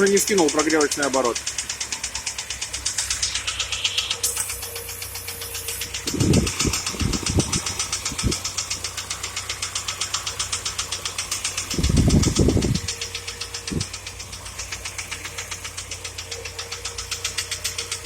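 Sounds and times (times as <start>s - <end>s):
petrol engine idling: 0.0s - 18.0s
rapid even engine knock: 0.0s - 18.0s.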